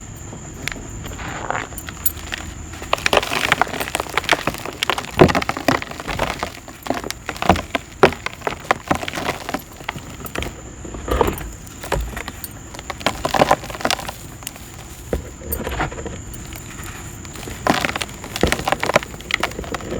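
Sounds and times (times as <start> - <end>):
dry dirt crumbling and crunching: 0.0 - 19.9.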